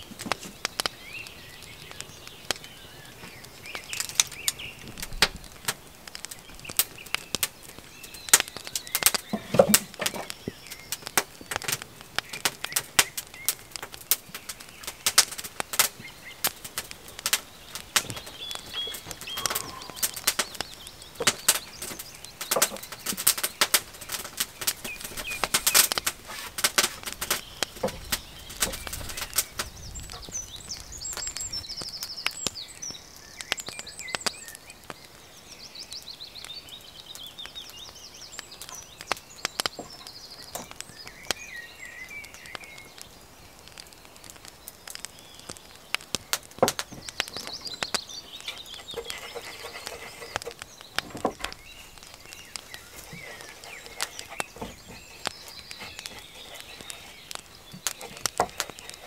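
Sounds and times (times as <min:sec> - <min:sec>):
bird chirping: 0:00.0 - 0:59.0
fire crackling and popping: 0:00.0 - 0:59.0.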